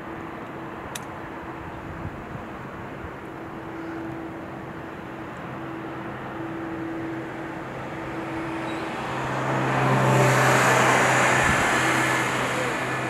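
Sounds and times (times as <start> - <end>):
motor engine humming: 0.0 - 13.0
traffic noise: 0.0 - 13.0.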